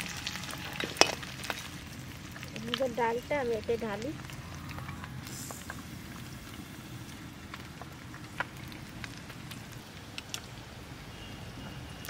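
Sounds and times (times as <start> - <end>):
raindrops ticking on surfaces: 0.0 - 12.0.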